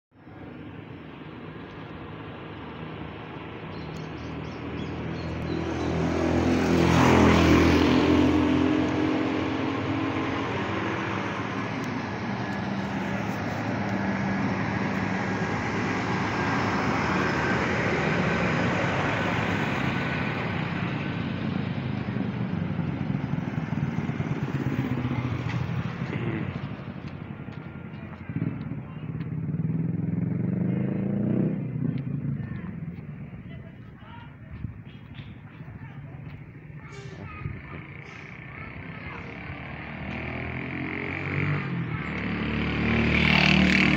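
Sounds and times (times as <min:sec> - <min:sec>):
street traffic noise: 0:00.1 - 0:43.9
vehicle engine passing close: 0:00.7 - 0:33.9, 0:35.0 - 0:43.9.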